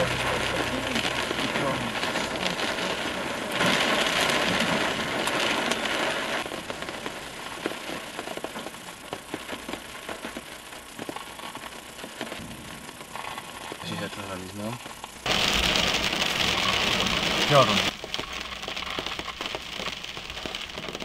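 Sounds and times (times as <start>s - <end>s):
rain on a car roof: 0.0s - 21.0s
separate raindrop hits: 0.0s - 21.0s.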